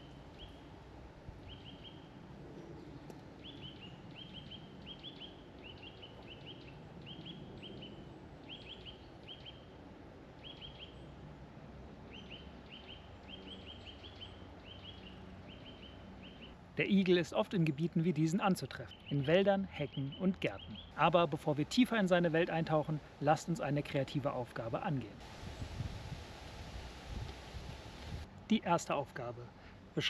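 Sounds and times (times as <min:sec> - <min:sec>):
songbird chirping: 0:00.0 - 0:09.8, 0:10.4 - 0:11.3, 0:12.1 - 0:25.9
low steady background rush: 0:00.0 - 0:30.0.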